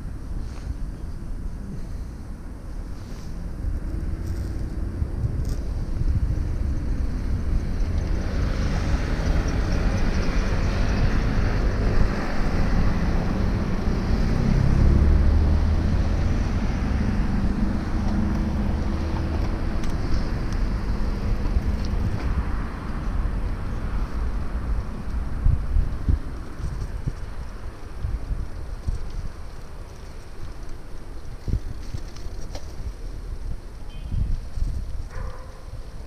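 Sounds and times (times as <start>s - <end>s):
passing road traffic hiss: 0.0s - 36.0s
wind rumbling on microphone: 0.0s - 36.0s.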